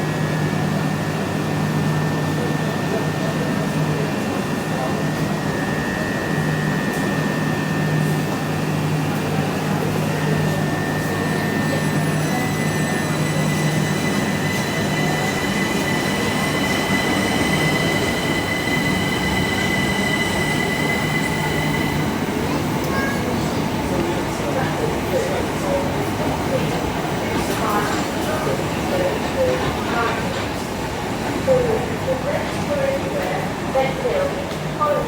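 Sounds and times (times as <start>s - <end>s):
train rumbling: 1.2s - 35.0s.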